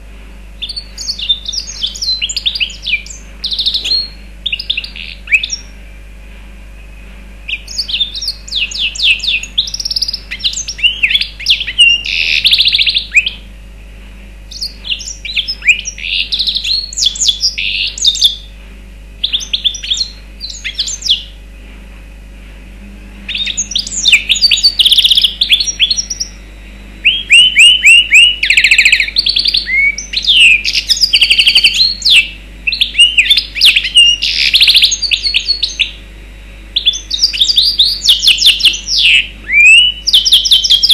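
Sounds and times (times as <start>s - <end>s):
bird singing twittering trills: 0.0s - 5.8s, 6.7s - 13.5s, 14.5s - 18.6s, 19.2s - 21.5s, 23.2s - 36.2s, 36.8s - 40.9s.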